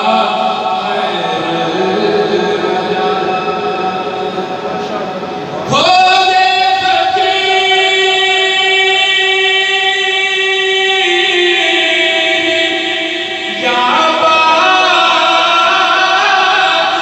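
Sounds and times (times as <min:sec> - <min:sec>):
man singing a long held note: 0:00.0 - 0:17.0.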